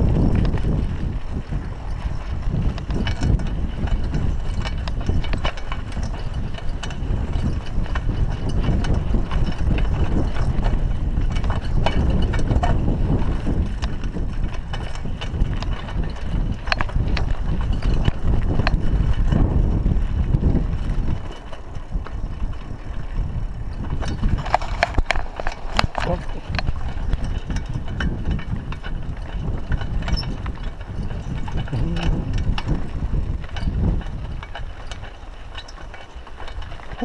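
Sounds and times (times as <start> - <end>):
bike clicks and rattles: 0.0 - 37.0
bike tyres rumbling on dirt: 0.0 - 37.0
wind on camera: 0.0 - 37.0.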